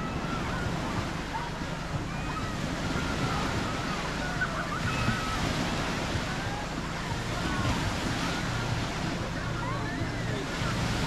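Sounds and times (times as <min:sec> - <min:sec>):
sea waves washing on shore: 0:00.0 - 0:11.0
wind rumbling on microphone: 0:00.0 - 0:11.0.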